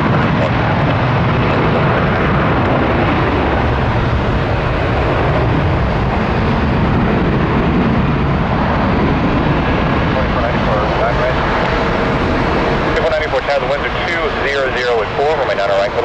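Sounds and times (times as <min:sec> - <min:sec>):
jet engine rushing: 0:00.9 - 0:16.0.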